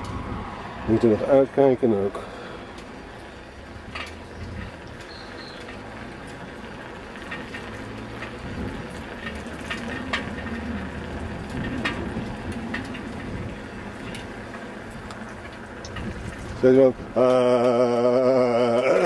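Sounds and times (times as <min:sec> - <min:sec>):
wind buffeting microphone: 0:00.0 - 0:01.9, 0:02.7 - 0:17.7
bicycle tyres on brick paving: 0:00.0 - 0:19.0
bike clicks and rattles: 0:00.0 - 0:19.0.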